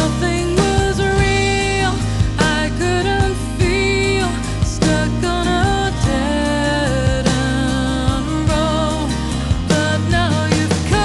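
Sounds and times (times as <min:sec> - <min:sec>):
background music with bass and drums: 0:00.0 - 0:11.0.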